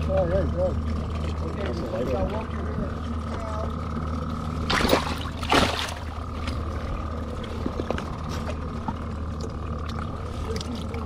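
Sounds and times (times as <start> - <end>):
boat motor humming with whine: 0.0 - 11.0.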